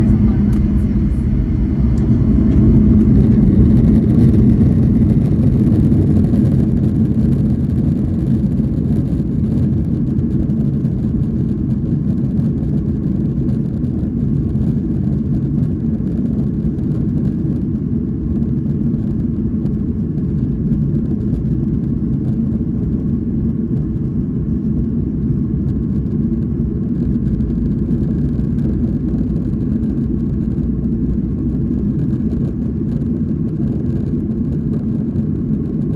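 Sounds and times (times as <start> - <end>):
jet engines at takeoff power: 0.0 - 35.9.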